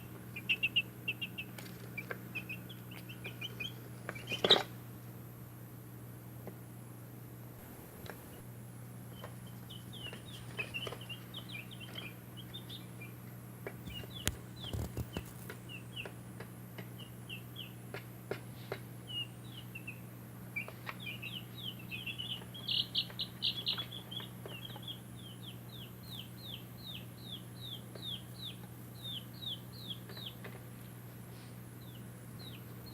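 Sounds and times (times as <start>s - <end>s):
baby chicks peeping: 0.0s - 4.8s, 9.1s - 32.9s
steady low hum: 0.0s - 32.9s.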